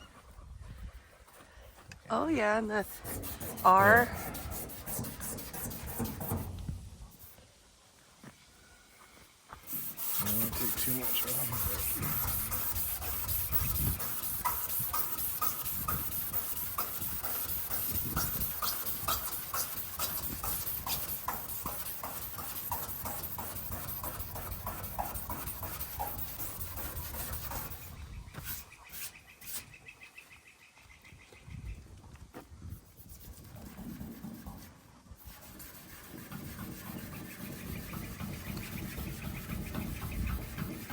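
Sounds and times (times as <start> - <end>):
hand rubbing painted metal: 0.0 - 7.4, 9.5 - 29.8, 32.7 - 40.9.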